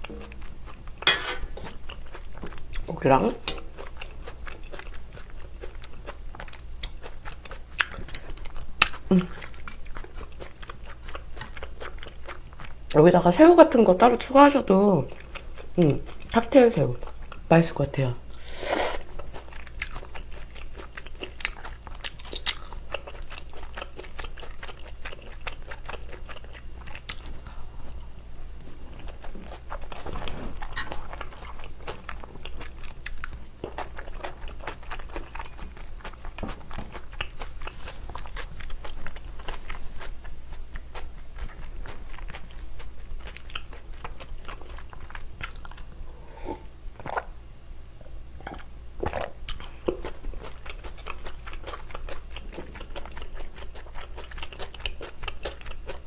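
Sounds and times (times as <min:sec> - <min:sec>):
wet chewing sounds: 0:00.0 - 0:17.5, 0:18.4 - 0:47.3, 0:48.4 - 0:56.0.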